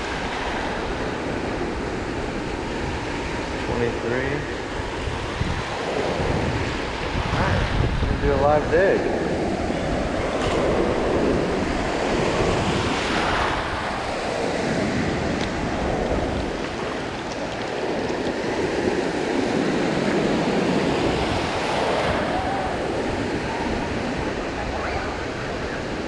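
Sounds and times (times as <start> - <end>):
small waves washing and foaming: 0.0 - 26.0
wind buffeting microphone: 0.0 - 26.0.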